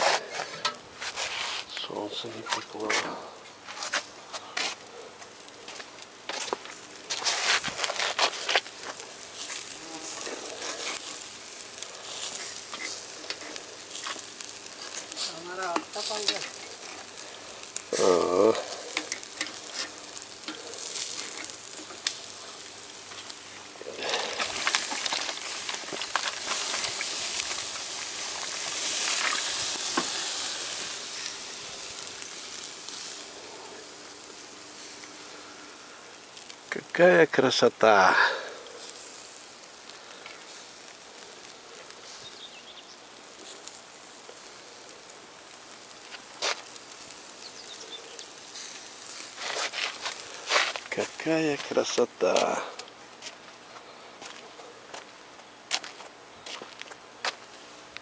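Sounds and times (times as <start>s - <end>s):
meat sizzling over charcoal: 0.0s - 58.0s.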